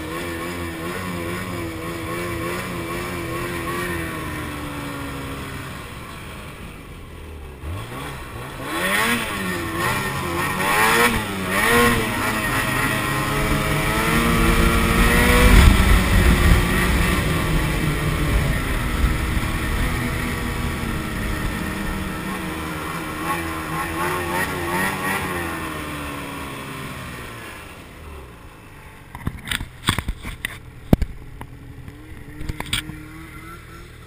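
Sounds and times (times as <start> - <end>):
snowmobile engine revving: 0.0 - 28.7, 29.3 - 34.0.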